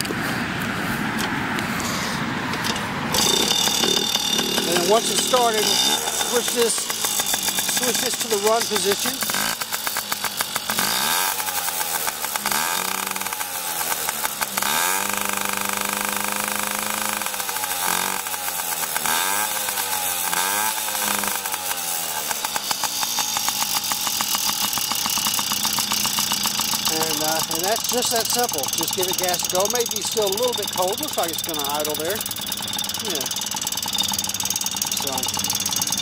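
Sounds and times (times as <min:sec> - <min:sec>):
small two-stroke engine revving: 0:00.0 - 0:36.0.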